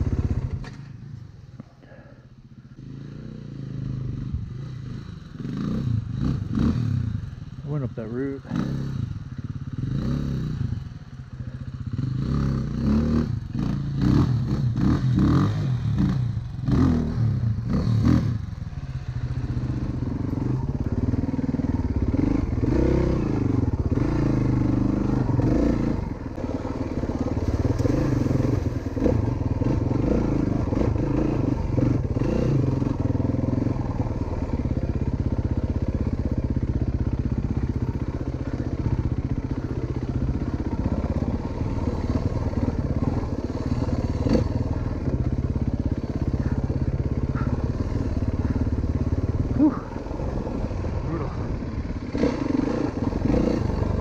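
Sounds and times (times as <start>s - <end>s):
dirt bike engine revving: 2.8s - 54.0s.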